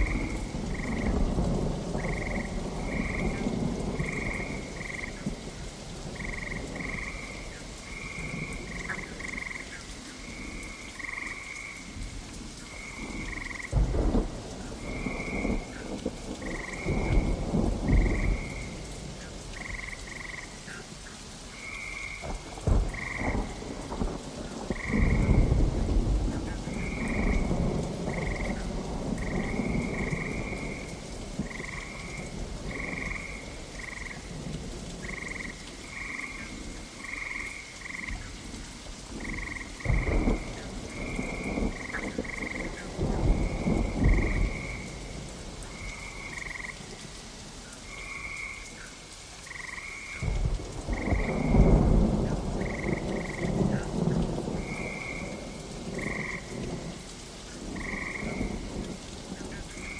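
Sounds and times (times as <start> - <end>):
thunder rumbling: 0.0 - 11.1, 12.7 - 20.4, 22.1 - 38.4, 39.1 - 47.1, 50.2 - 59.9
frogs croaking: 0.0 - 59.9
steady rain: 0.0 - 59.9.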